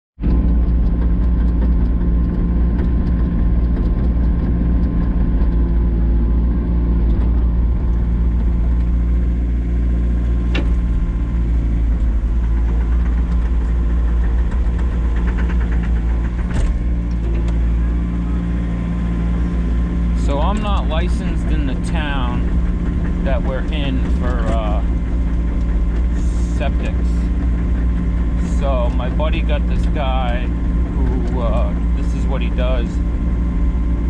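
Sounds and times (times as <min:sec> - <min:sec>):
excavator engine idling: 0:00.2 - 0:34.0.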